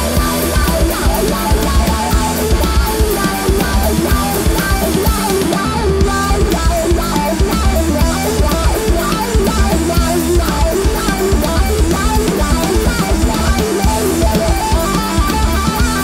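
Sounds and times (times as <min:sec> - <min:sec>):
driving bass: 0:00.0 - 0:16.0
drums with cymbal hits: 0:00.0 - 0:16.0
electric guitar lead line: 0:00.0 - 0:16.0.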